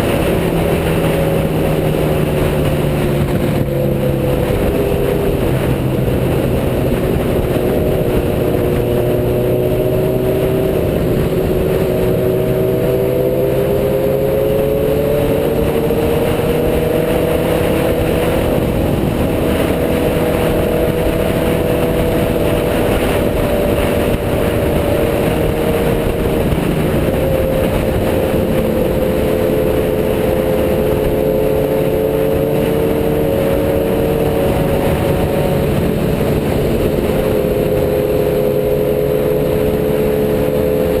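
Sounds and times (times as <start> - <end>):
motorcycle engine cruising: 0.0 - 41.0
wind rush: 0.0 - 41.0.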